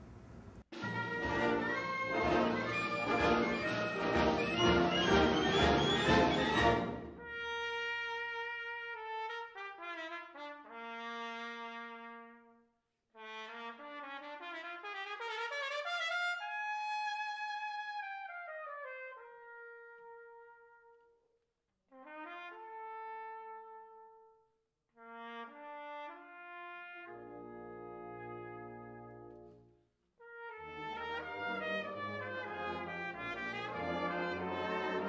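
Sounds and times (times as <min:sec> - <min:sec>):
trumpet-like brass music: 0:00.7 - 0:12.6, 0:13.2 - 0:21.1, 0:22.0 - 0:24.4, 0:25.0 - 0:29.6, 0:30.2 - 0:35.0.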